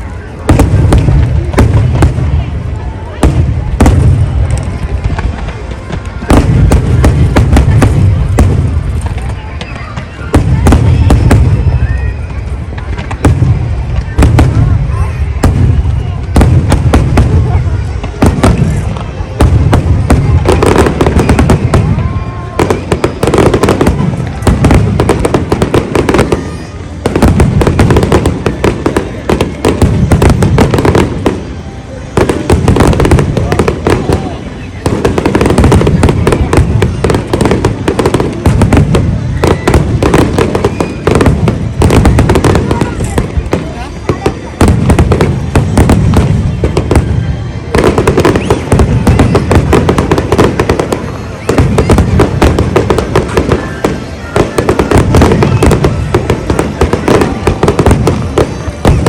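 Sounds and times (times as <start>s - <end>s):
fireworks bursts and crackling bangs: 0.0s - 59.0s.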